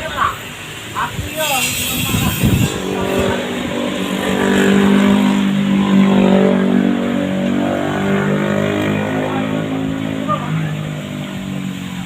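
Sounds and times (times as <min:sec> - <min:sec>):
engine running under load: 0:00.4 - 0:12.0.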